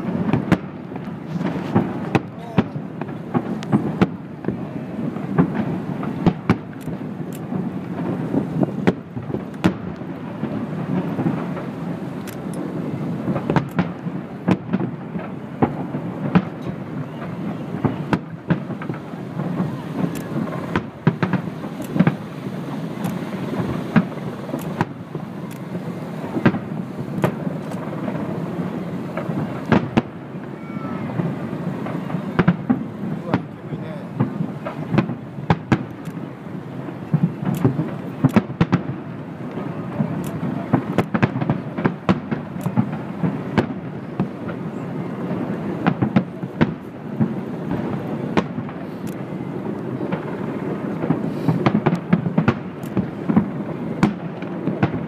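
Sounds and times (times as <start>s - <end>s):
firework bangs: 0.0s - 55.0s.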